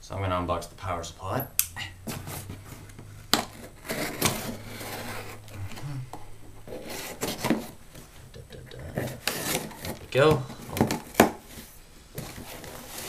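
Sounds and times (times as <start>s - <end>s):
tape and cardboard scraping: 2.0s - 13.0s.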